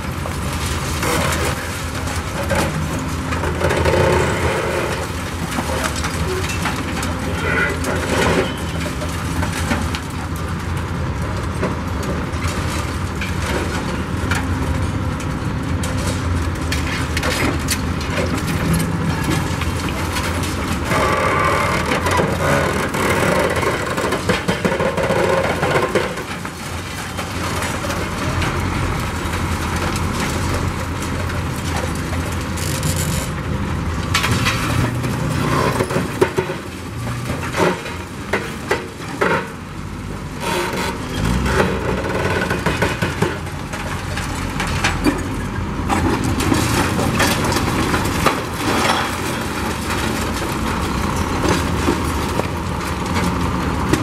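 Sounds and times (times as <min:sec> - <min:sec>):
bricks and debris crashing: 0:00.0 - 0:54.0
diesel engine rumble: 0:00.0 - 0:54.0.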